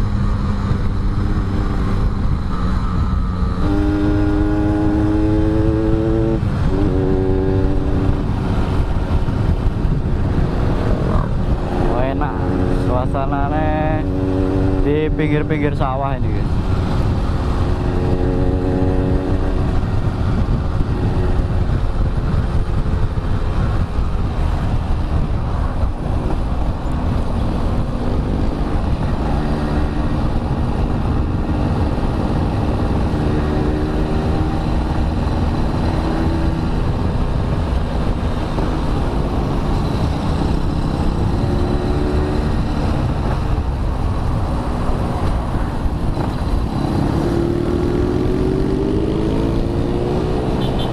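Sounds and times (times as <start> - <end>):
wind noise: 0.0 - 50.9.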